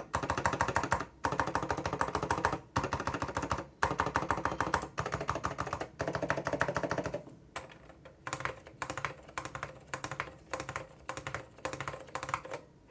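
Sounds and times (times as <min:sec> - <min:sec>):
keyboard typing: 0:00.0 - 0:12.9.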